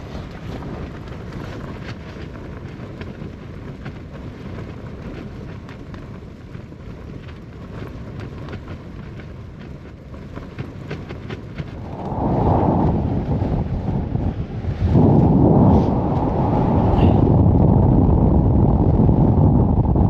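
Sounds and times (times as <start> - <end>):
wind shaking tent fabric: 0.0 - 20.0.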